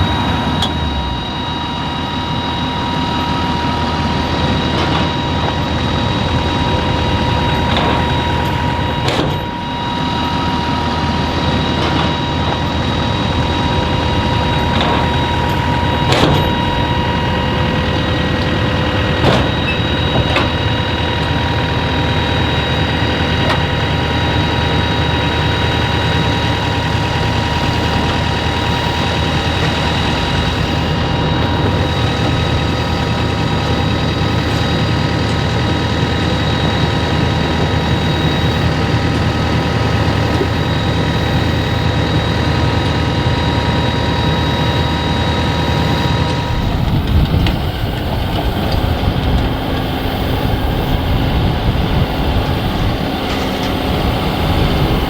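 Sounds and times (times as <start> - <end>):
machinery drone with high whine: 0.0 - 55.0.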